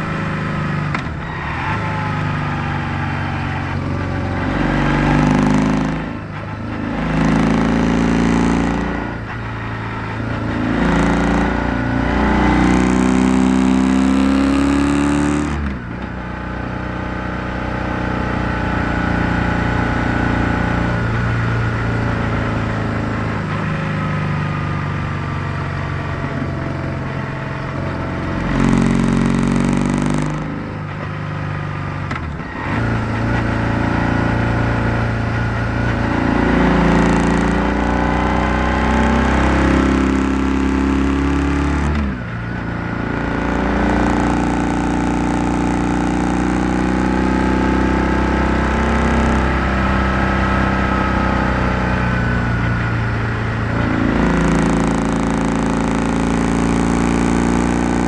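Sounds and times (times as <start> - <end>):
motorcycle engine running: 3.6 - 58.0.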